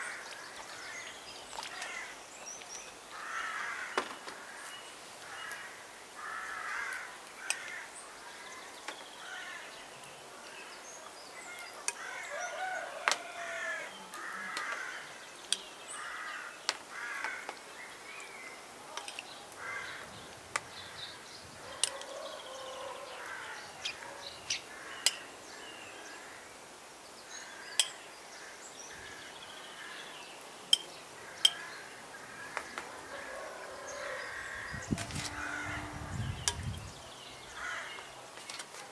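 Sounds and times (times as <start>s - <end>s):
birds calling: 0.0s - 38.2s.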